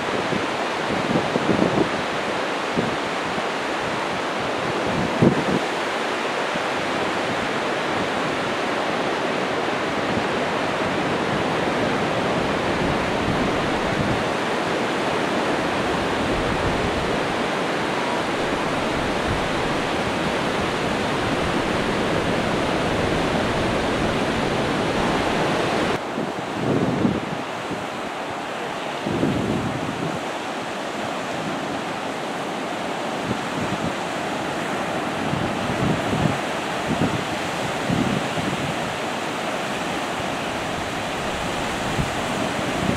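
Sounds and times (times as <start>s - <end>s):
surf breaking on beach: 0.0s - 42.9s.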